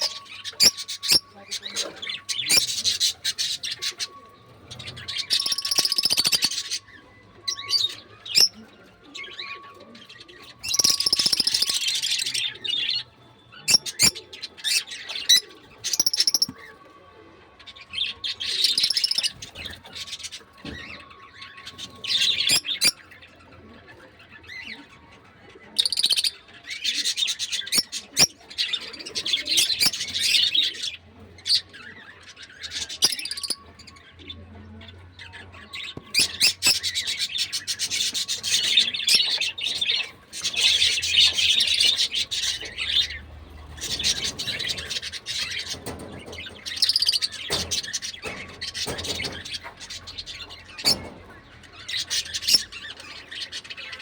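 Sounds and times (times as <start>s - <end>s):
lovebirds chirping and chattering: 0.0s - 54.0s.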